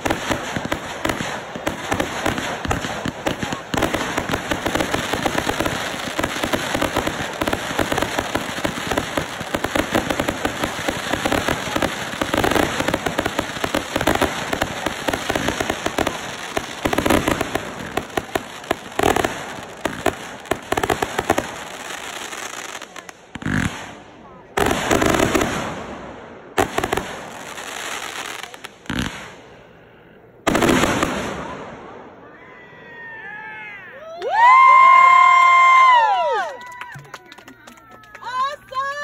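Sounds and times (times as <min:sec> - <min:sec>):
fireworks bangs: 0:00.0 - 0:29.8, 0:30.4 - 0:32.2
fireworks crackling: 0:00.0 - 0:29.8, 0:30.4 - 0:32.0.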